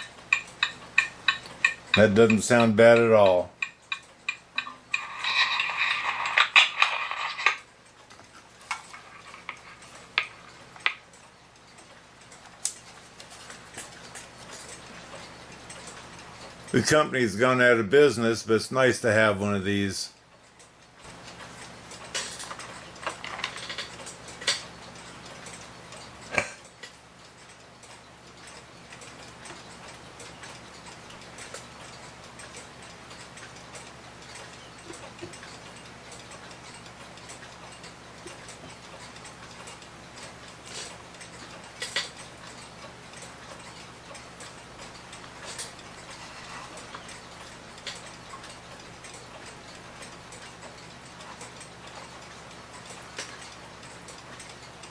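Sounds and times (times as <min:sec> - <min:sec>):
pendulum clock ticking: 0:00.0 - 0:54.9.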